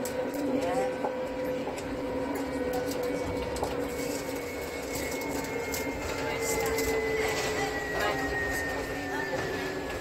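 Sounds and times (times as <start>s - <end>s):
tram electric hum: 0.0s - 10.0s.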